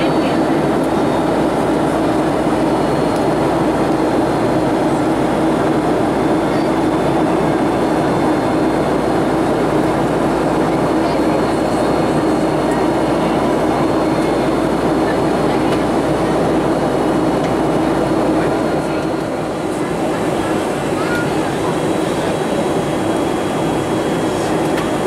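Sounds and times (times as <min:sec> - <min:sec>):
airplane cabin roar: 0:00.0 - 0:25.0.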